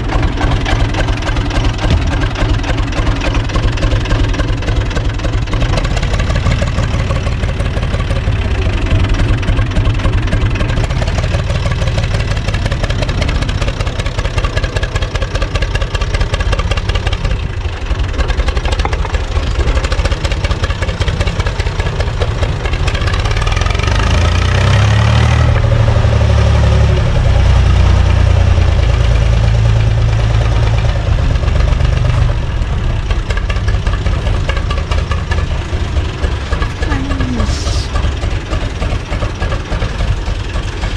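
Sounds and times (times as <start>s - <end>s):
diesel engine idling: 0.0s - 24.7s, 25.4s - 40.9s.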